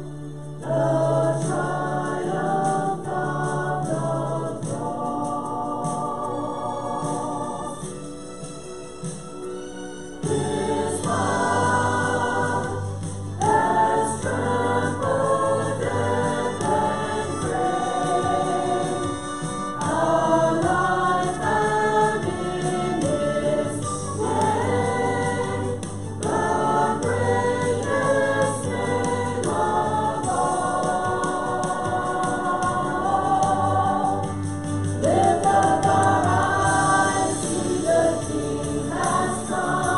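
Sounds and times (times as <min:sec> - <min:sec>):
instrumental accompaniment with bass: 0:00.0 - 0:39.9
voices singing a hymn: 0:00.0 - 0:39.9.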